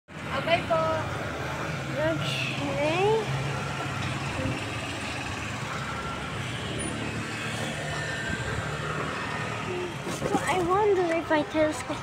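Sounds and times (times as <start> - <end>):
road and wind noise: 0.1 - 12.0.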